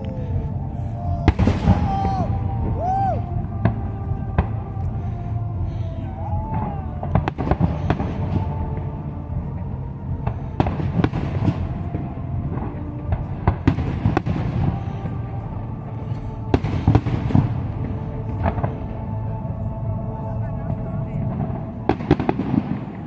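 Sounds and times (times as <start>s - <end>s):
low rumble: 0.0s - 23.0s
music playing: 0.0s - 23.0s.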